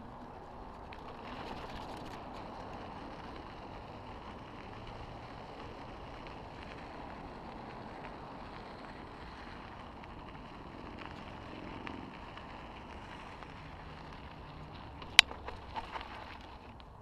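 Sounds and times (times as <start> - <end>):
bike tyres crunching on dirt: 0.0 - 17.0
small ticks: 0.2 - 17.0.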